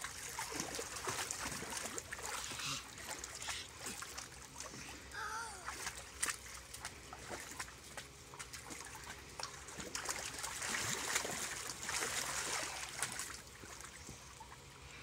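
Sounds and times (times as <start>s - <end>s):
water splashing in a pool: 0.0s - 15.0s.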